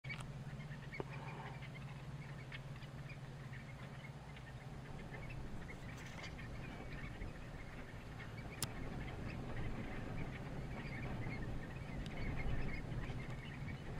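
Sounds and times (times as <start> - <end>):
birds giving soft calls: 0.0 - 13.9
low steady hum: 0.0 - 13.9.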